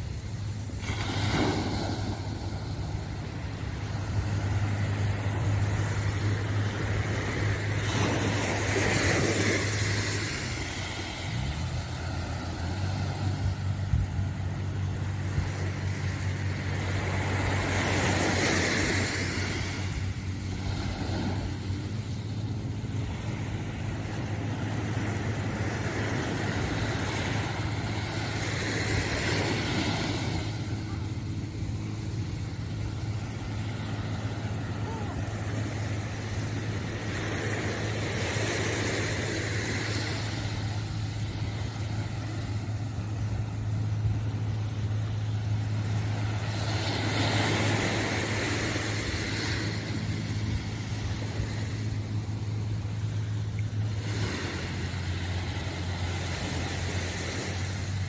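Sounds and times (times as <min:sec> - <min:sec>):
low engine hum: 0:00.0 - 0:58.0
small waves washing onto beach: 0:00.0 - 0:58.0.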